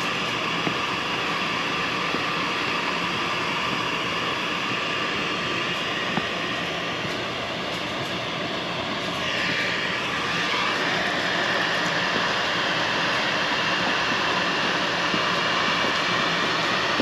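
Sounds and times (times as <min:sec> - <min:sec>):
faint high whine: 0:00.0 - 0:17.0
rushing mechanical noise: 0:00.0 - 0:17.0.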